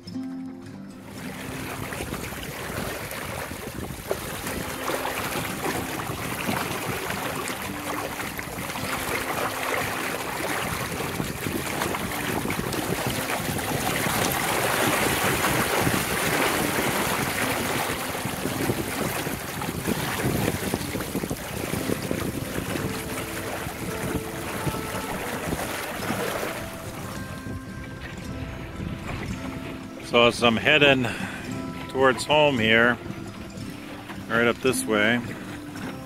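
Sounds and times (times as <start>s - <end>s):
water rushing and churning: 0.0s - 36.0s
wind buffeting microphone: 1.0s - 36.0s.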